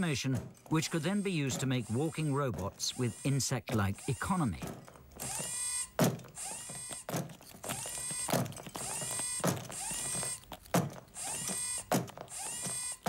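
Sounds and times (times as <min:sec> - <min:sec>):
servo motors whirring: 0:00.0 - 0:13.0.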